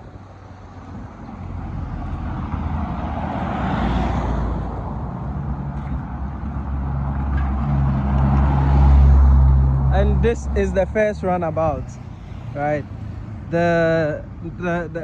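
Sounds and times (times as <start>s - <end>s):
vehicle passing: 0.6s - 15.0s.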